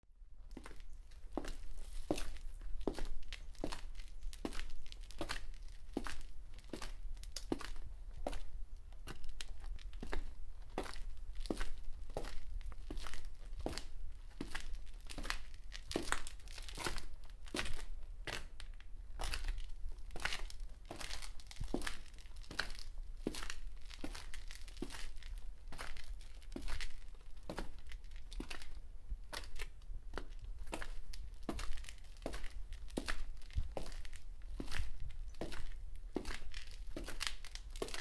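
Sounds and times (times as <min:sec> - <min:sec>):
footsteps crunching on loose surface: 0:00.6 - 0:38.0.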